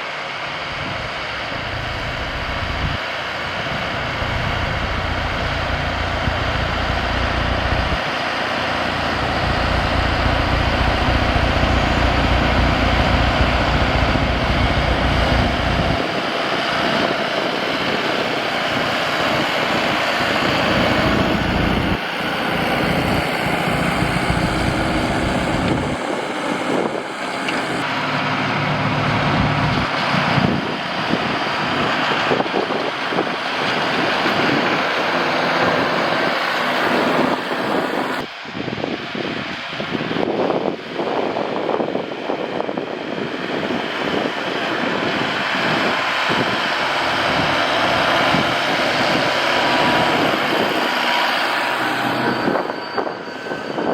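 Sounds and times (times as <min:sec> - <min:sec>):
tractor engine noise: 0:00.0 - 0:53.9
snowblowers throwing snow: 0:01.0 - 0:28.4, 0:29.2 - 0:38.2, 0:43.1 - 0:53.9.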